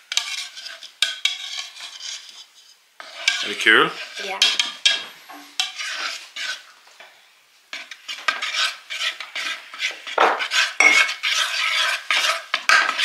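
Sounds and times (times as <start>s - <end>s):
utensil stirring thick sauce: 0.0s - 6.8s, 7.7s - 13.0s.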